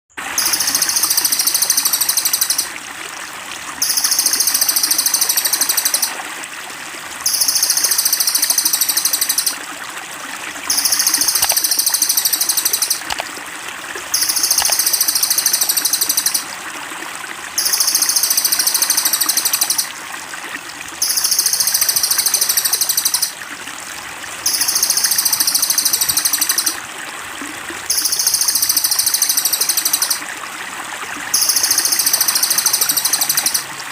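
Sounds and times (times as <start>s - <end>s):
water trickling: 0.2s - 33.9s.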